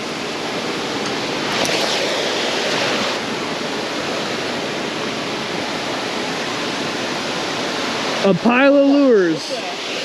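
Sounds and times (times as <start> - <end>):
water rushing over spillway: 0.0 - 10.0.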